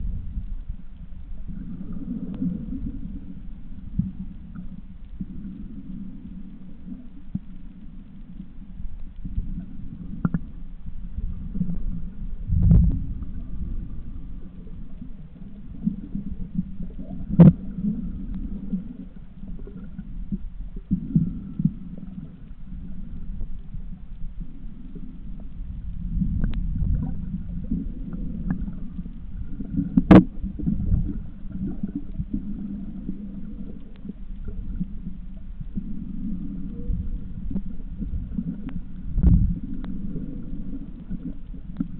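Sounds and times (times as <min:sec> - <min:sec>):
low underwater rumble: 0:00.0 - 0:41.9.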